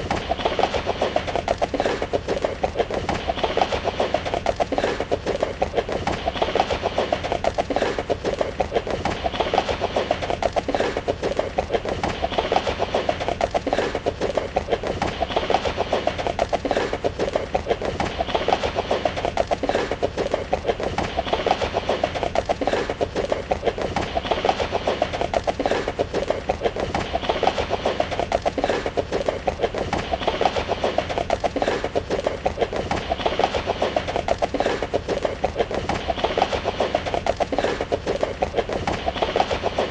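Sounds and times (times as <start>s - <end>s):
horse hooves galloping: 0.0s - 39.9s.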